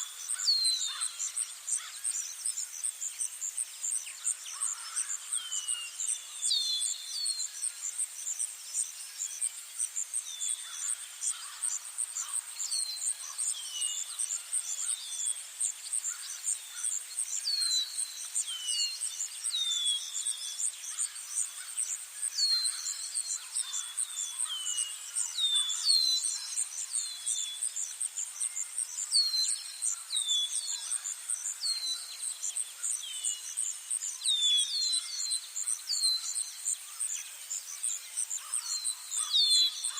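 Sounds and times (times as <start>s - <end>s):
high-pitched insect trill: 0.2s - 39.9s.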